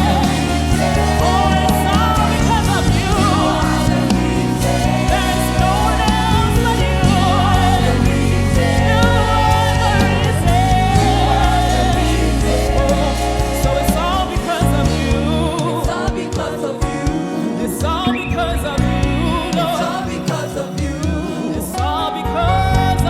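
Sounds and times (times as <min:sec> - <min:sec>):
bass: 0:00.0 - 0:16.2, 0:17.9 - 0:21.3, 0:22.2 - 0:23.0
keyboard: 0:00.0 - 0:23.0
voices singing worship song: 0:00.0 - 0:23.0.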